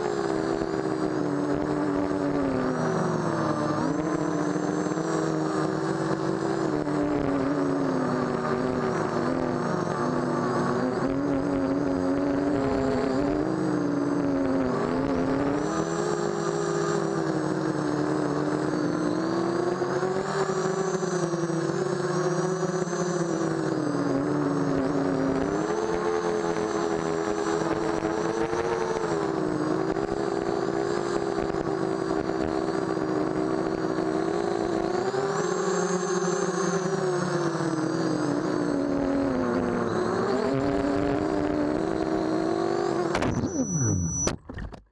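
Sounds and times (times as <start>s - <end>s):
drone motors whining: 0.0s - 44.9s.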